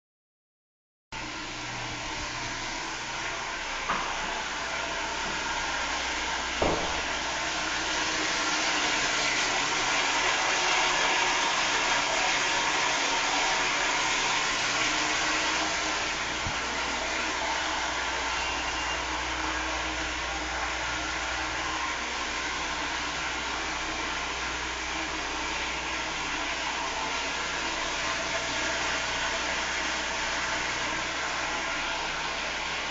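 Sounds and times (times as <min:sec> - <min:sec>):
toilet flushing: 0:01.3 - 0:32.9.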